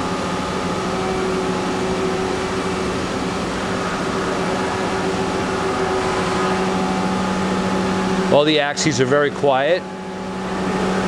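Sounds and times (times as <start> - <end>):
machining center humming: 0.0 - 11.0.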